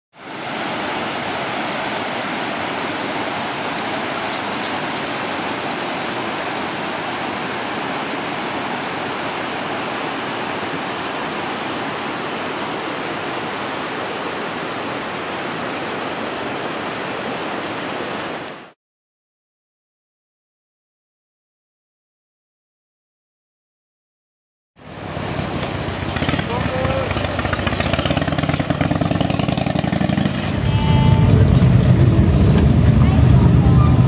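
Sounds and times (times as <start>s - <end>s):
stream rippling over stones: 0.2s - 18.8s, 24.8s - 34.0s.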